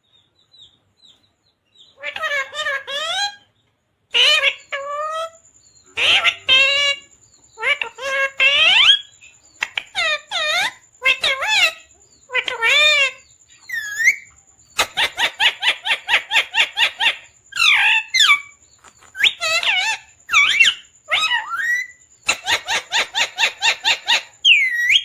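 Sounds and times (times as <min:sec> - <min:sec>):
parrot squawking: 0:01.9 - 0:03.4, 0:04.1 - 0:25.0.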